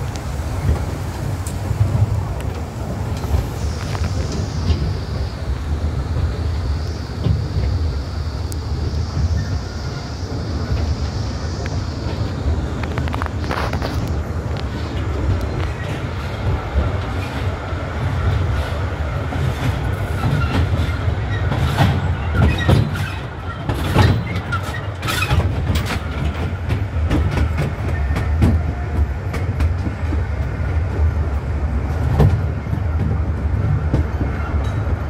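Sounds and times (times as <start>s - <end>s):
train rumbling: 0.0s - 35.0s
wheels clicking on rails: 0.0s - 35.0s.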